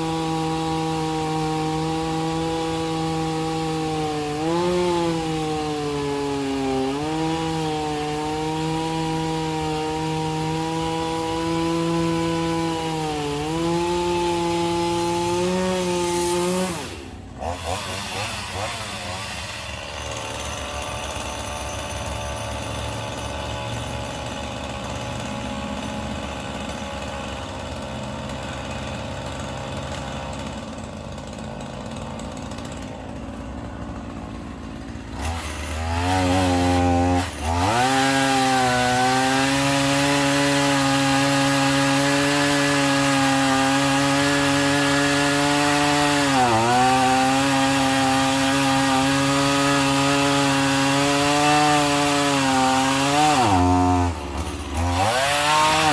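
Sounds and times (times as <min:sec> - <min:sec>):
chainsaw idling and revving: 0:00.0 - 0:55.9.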